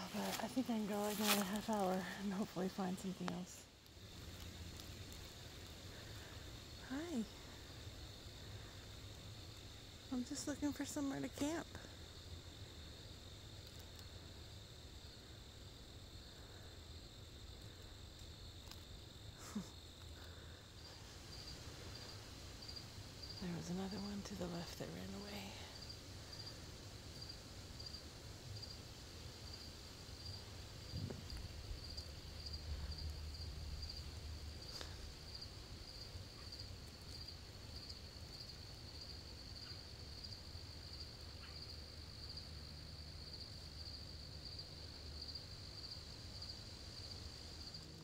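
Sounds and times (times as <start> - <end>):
faint low rumble: 0.0 - 48.0
insect trilling: 0.0 - 48.0.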